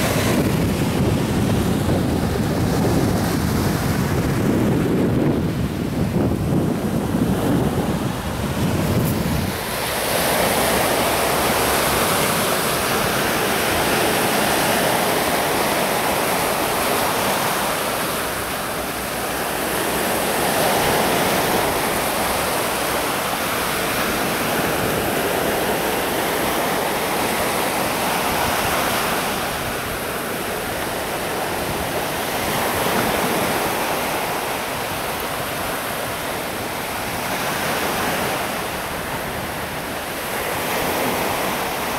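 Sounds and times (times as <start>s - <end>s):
sea rushing: 0.0s - 41.9s
wind rumble on microphone: 0.0s - 41.9s.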